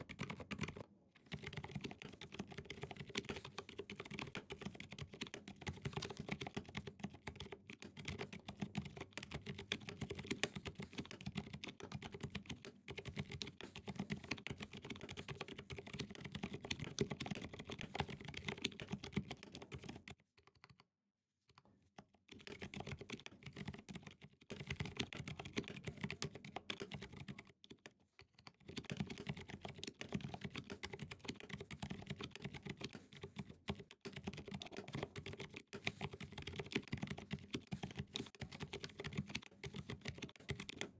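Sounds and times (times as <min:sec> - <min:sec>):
muted mechanical keyboard typing: 0:00.0 - 0:20.8, 0:22.3 - 0:40.9.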